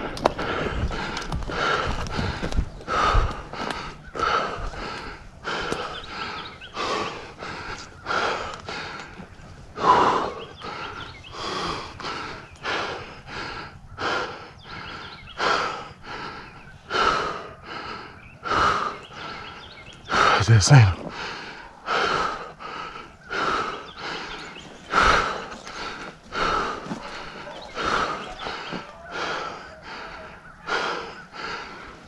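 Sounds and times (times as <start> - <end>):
person breathing hard: 0.0 - 32.0.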